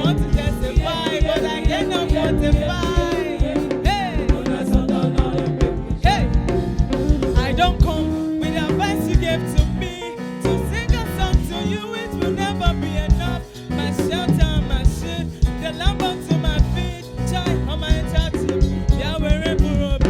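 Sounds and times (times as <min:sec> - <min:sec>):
live band gospel music: 0:00.0 - 0:20.0
steady drum beat: 0:00.0 - 0:20.0.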